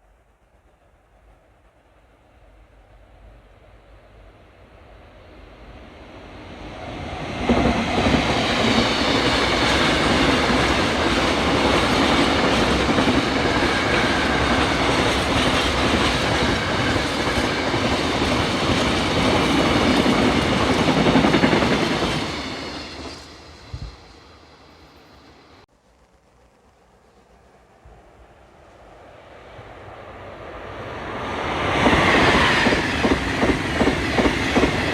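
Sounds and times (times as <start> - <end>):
train wheels on rails: 5.7 - 34.9.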